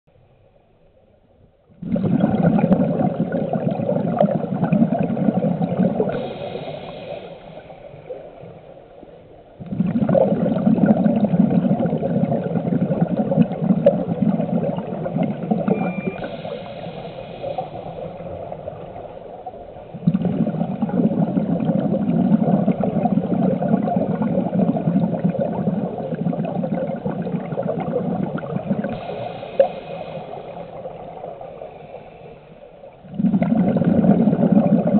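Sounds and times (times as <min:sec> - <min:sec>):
underwater bubbling and gurgling: 0:00.4 - 0:34.9.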